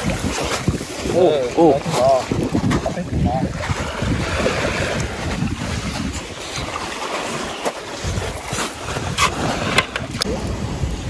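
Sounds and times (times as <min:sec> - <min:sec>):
waves washing on shore: 0:00.0 - 0:11.0
wind buffeting microphone: 0:00.0 - 0:11.0.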